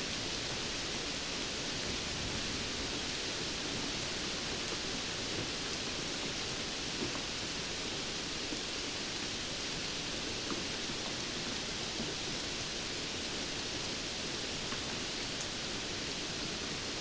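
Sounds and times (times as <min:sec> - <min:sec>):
steady rainfall: 0:00.0 - 0:17.0.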